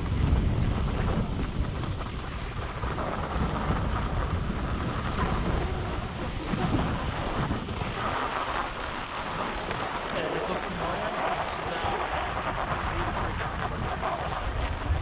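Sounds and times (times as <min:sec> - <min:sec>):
skis scraping on snow: 0:00.0 - 0:15.0
wind buffeting microphone: 0:00.0 - 0:15.0.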